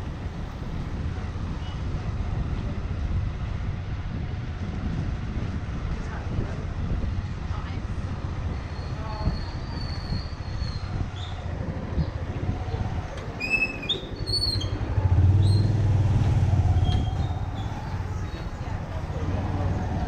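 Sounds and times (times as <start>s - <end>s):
motorcycle engine rumbling: 0.1s - 20.0s.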